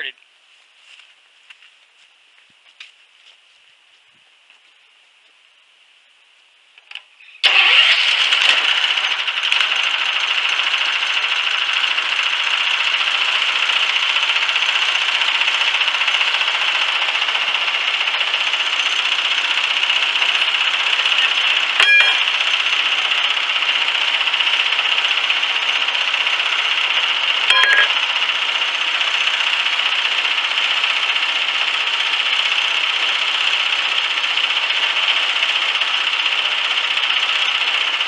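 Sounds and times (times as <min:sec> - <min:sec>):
small gasoline engine running: 0:07.4 - 0:38.0.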